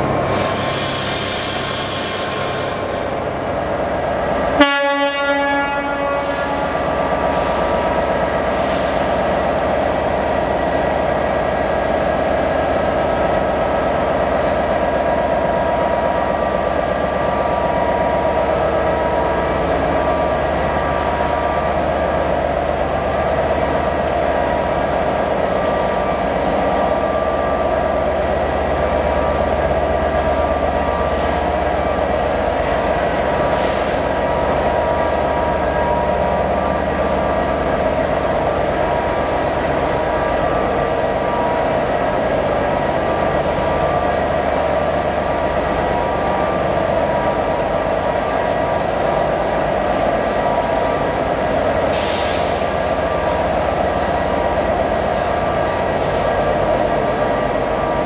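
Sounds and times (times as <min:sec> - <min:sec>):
constant high whine: 0:02.8 - 0:58.0.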